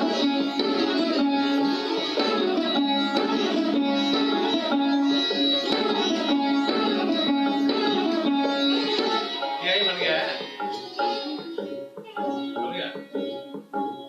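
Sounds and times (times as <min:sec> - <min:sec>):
plucked string instrument: 0:00.0 - 0:14.0.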